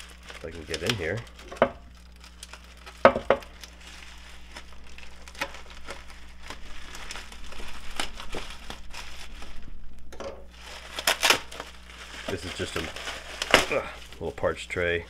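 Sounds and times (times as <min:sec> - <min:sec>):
bubble wrap crinkling and tearing: 0:00.0 - 0:15.0.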